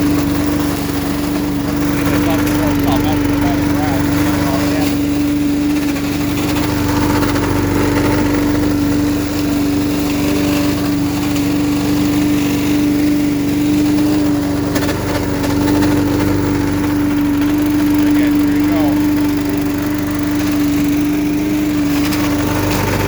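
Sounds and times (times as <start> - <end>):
leaf vacuum engine running: 0.0 - 23.0.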